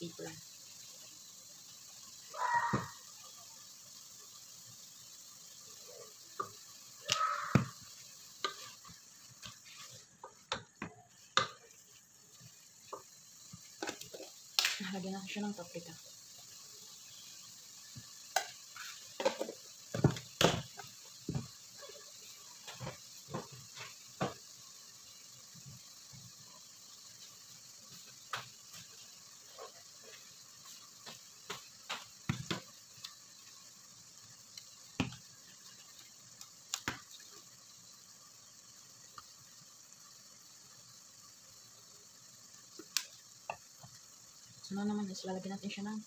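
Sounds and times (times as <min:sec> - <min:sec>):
faint sizzle: 0:00.0 - 0:46.0.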